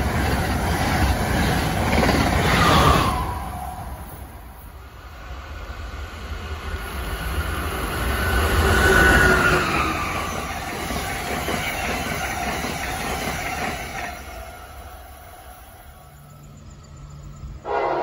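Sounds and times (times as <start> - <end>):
electric train passing at speed: 0.0 - 18.0
locomotive whine: 0.0 - 18.0
train coaches rolling: 0.0 - 18.0.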